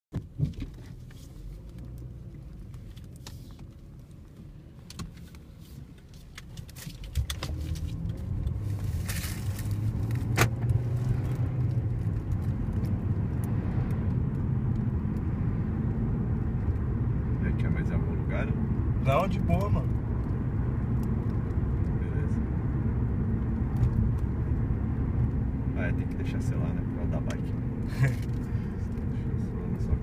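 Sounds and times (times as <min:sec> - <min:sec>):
car engine and road noise: 0:00.1 - 0:30.0.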